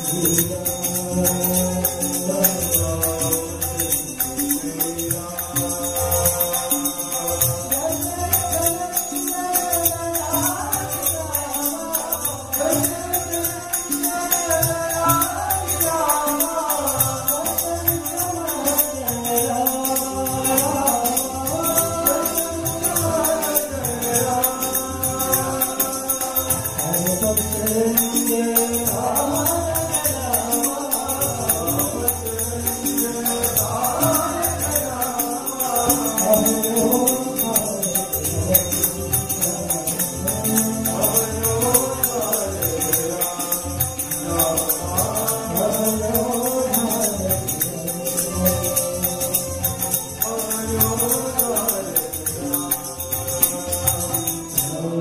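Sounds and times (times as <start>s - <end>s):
group singing in chorus: 0.0s - 55.0s
hand percussion beat: 0.0s - 55.0s.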